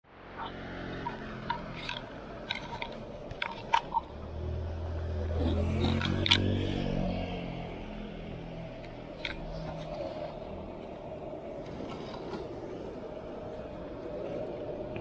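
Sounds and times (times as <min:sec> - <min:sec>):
street noise: 0:00.0 - 0:15.0
motor scooter passing: 0:00.1 - 0:13.8.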